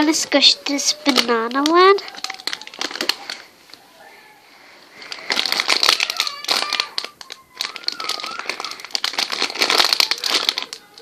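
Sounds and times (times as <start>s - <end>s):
plastic wrapper crinkling: 0.0s - 3.8s, 4.9s - 11.0s.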